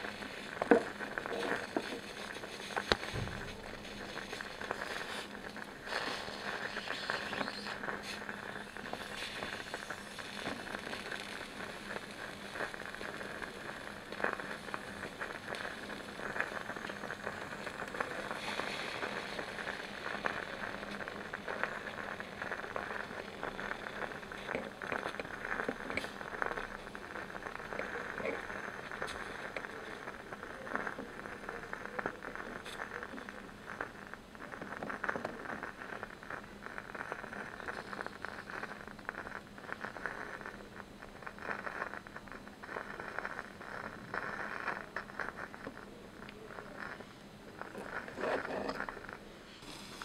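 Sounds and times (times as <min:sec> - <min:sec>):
broth simmering and bubbling: 0:00.0 - 0:50.0.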